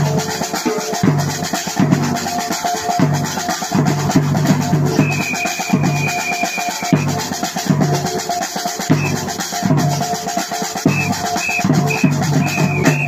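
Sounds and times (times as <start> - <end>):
music with drum-kit beat: 0.0 - 13.0.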